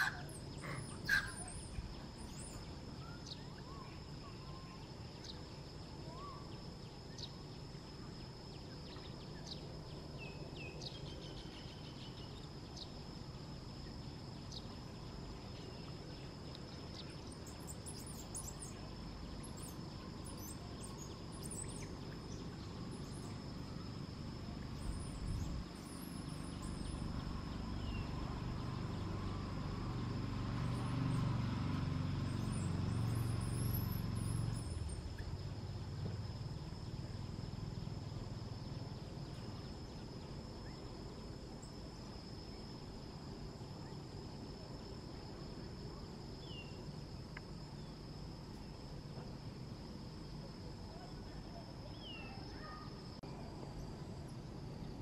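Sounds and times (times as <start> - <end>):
constant high whine: 0.0 - 55.0.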